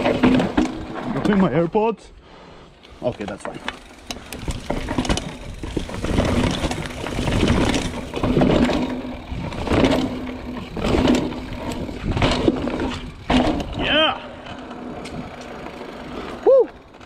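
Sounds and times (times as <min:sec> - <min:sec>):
mountain bike rattling over steps: 0:00.0 - 0:01.9, 0:02.9 - 0:17.0.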